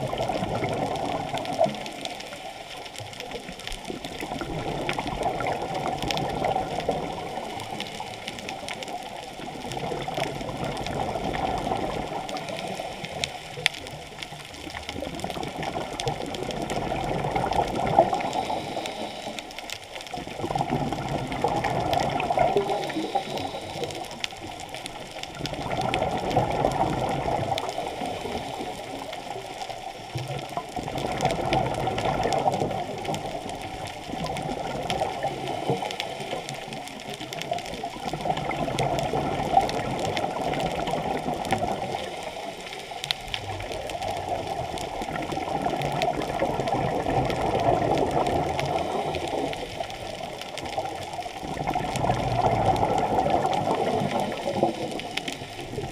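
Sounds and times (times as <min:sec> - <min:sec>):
muffled underwater bubbling: 0:00.0 - 0:55.9.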